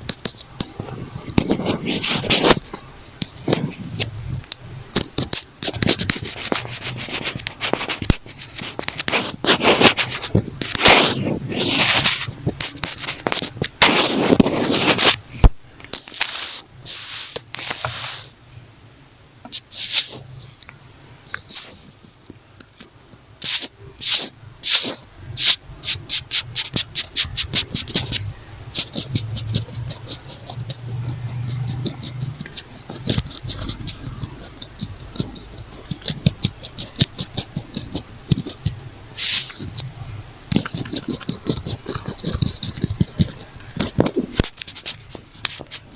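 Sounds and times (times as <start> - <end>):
scratching on notebook cover: 0.0 - 15.3, 16.0 - 18.4, 19.5 - 39.9, 40.5 - 45.9.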